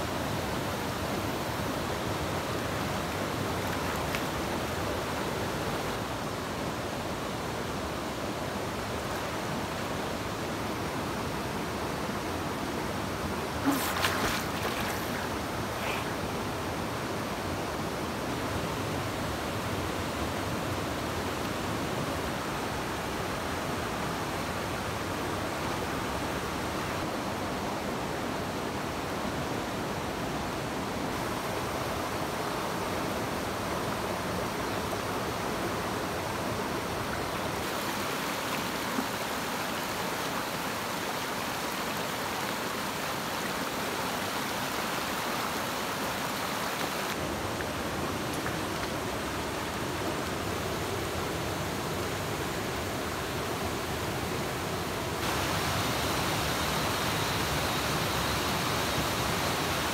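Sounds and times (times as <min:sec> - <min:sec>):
stream flowing over stones: 0:00.1 - 0:27.1, 0:31.2 - 0:59.9.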